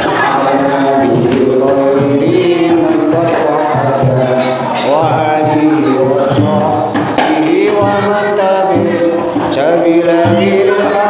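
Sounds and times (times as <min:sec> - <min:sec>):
group of voices chanting: 0:00.0 - 0:11.0
hand-struck frame drums: 0:00.0 - 0:11.0.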